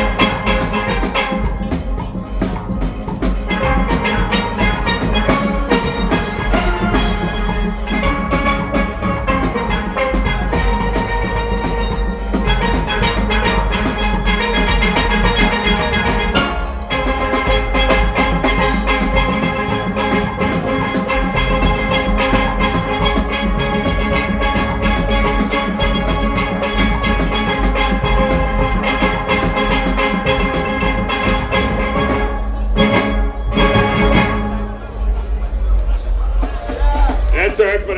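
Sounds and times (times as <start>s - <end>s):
drum kit and percussion beat: 0.0s - 37.9s
steelpan band playing: 0.0s - 37.9s.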